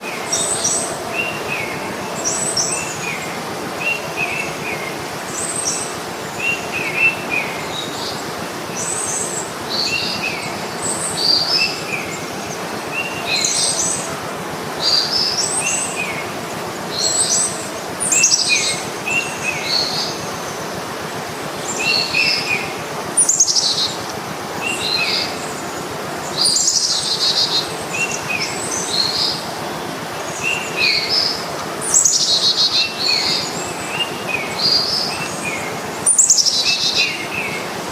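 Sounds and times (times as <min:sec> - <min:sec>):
birds chirping: 0:00.0 - 0:37.9
steady background hiss: 0:00.0 - 0:37.9.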